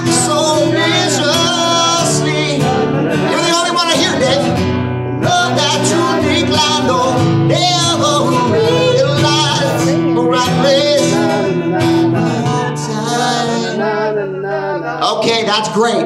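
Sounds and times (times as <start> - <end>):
acoustic guitar strumming: 0.0 - 16.0
man singing into a microphone: 0.0 - 16.0.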